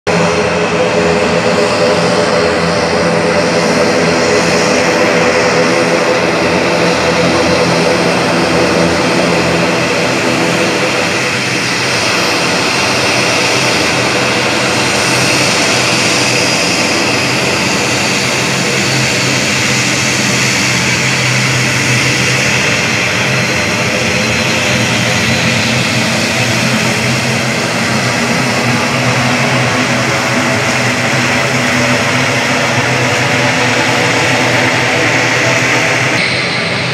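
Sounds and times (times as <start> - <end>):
propeller drone: 0.0 - 36.9
turbine whine: 0.1 - 36.9.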